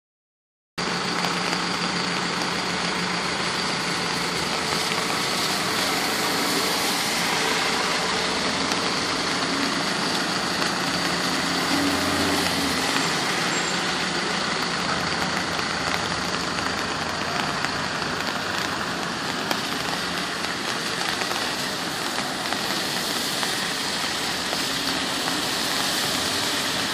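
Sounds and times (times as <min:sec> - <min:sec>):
car engines running: 0:00.8 - 0:26.9
tyres hissing on wet road: 0:00.8 - 0:26.9.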